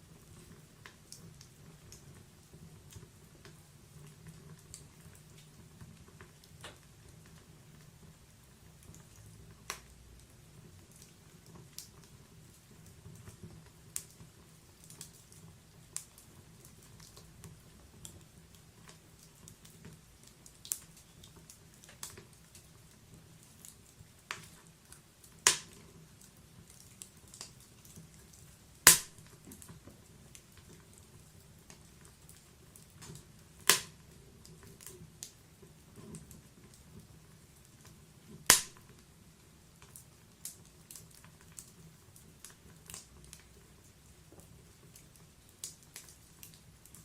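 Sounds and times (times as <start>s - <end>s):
low steady hiss: 0.0s - 47.0s
wood fire crackling: 0.0s - 47.0s.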